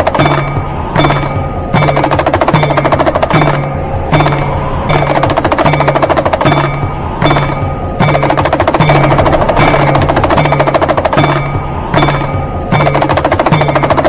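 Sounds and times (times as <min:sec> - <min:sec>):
low steady tone: 0:00.0 - 0:14.0
hand drum rattling in fast rolls: 0:01.8 - 0:14.0.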